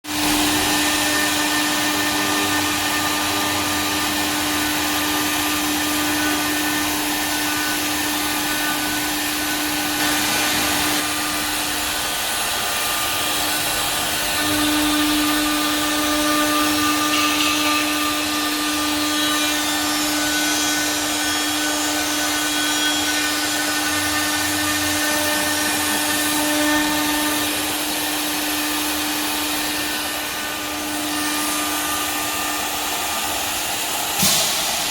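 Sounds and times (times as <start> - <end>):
machine motor whine: 0.1 - 34.9.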